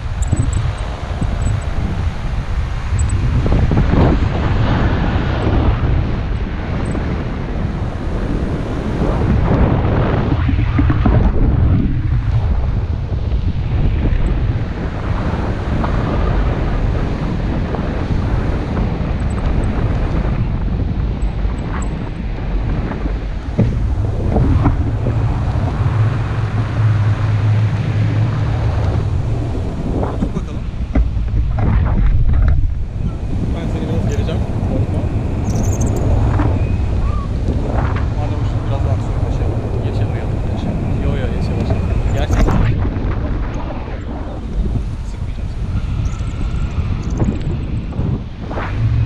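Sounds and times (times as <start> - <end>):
low drone: 0.0 - 49.0
wind buffeting microphone: 0.0 - 49.0.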